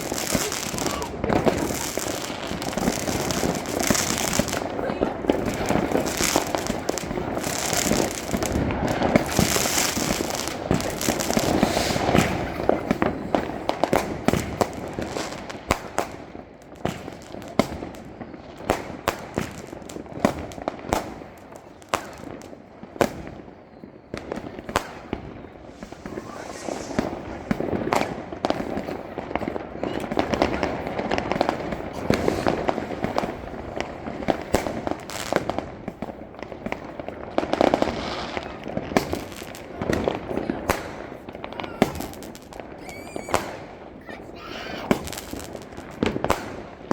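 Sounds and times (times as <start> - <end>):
firecrackers banging and crackling: 0.0 - 46.9.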